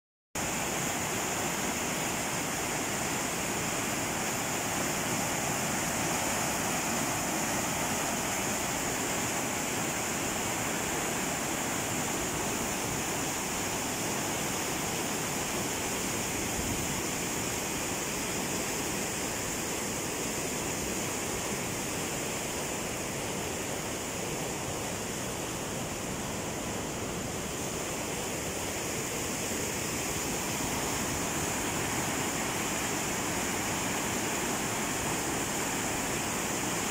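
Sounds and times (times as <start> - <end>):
river rushing over weir: 0.4 - 36.9.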